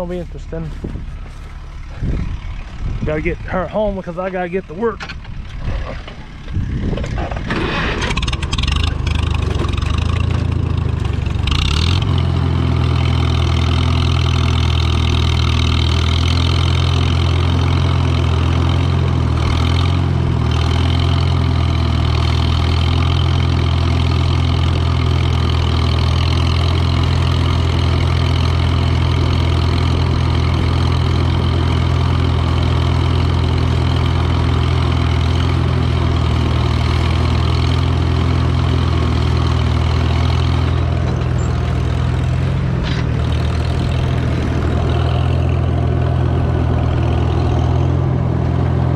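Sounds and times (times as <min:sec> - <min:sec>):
vehicle engine starting and running: 0:00.0 - 0:48.9.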